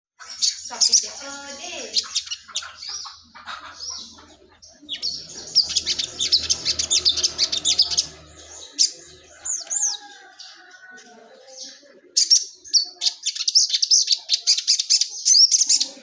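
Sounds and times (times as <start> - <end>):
bird chirping: 0.2 - 16.0.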